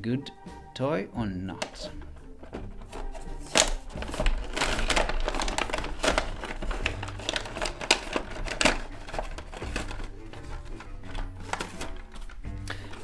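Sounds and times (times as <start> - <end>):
toy packaging crinkling: 1.6 - 13.0.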